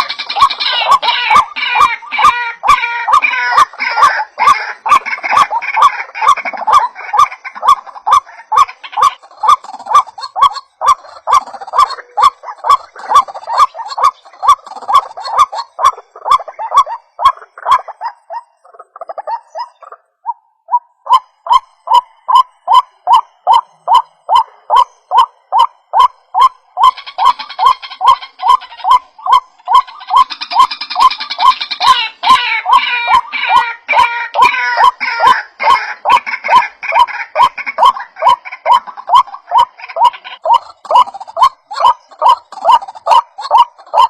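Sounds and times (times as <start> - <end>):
waterhen calling: 0.0 - 44.0.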